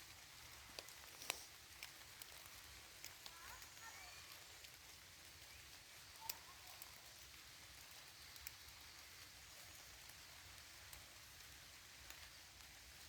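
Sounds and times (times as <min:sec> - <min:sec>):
faint rain falling: 0:00.0 - 0:13.0.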